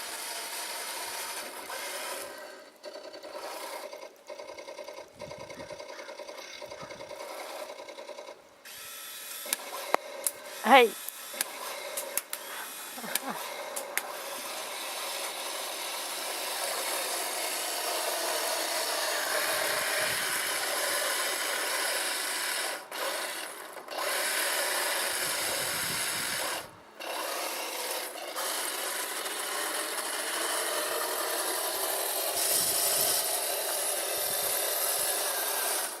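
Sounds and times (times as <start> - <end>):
toy tank motor whirring: 0.0 - 36.0.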